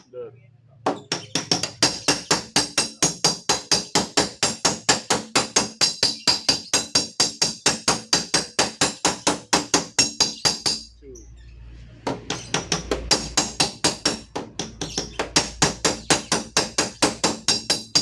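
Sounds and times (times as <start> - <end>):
hammer tapping on steel door panel: 0.9 - 10.9, 12.0 - 18.0.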